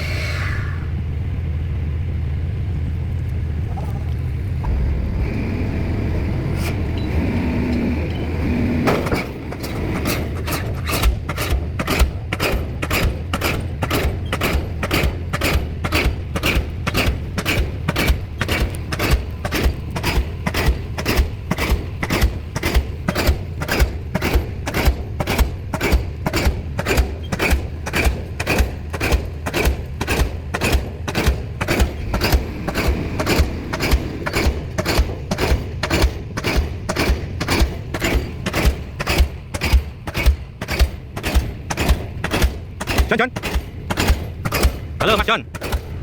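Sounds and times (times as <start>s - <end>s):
pile hammer blows: 8.8s - 46.0s.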